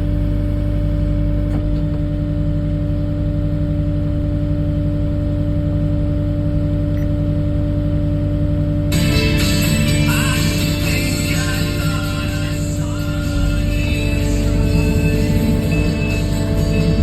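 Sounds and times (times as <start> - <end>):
brighter fuller engine sound: 0.0 - 17.0
diesel engine running: 0.0 - 17.0.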